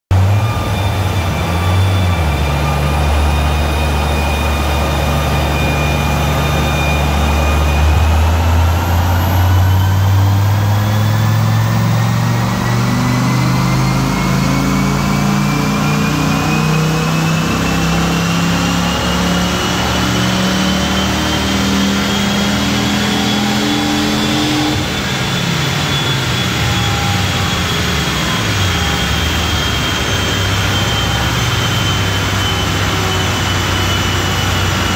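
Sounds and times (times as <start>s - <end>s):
car engine revving on dynamometer: 0.1s - 34.9s
roller and tyre whine: 0.1s - 34.9s.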